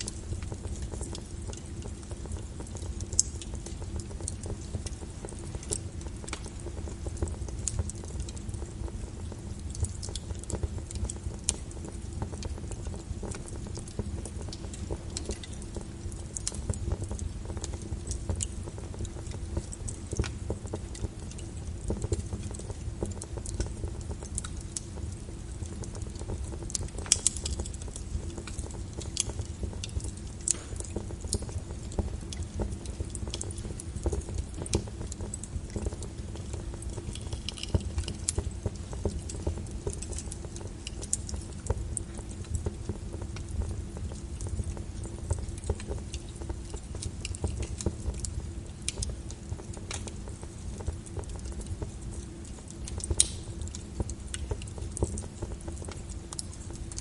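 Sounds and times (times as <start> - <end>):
low fire rumble: 0.0 - 57.0
wood fire crackling and popping: 0.0 - 57.0.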